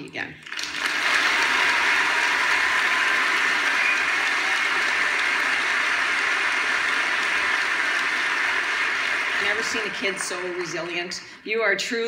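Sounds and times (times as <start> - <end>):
audience applauding on television: 0.4 - 11.3.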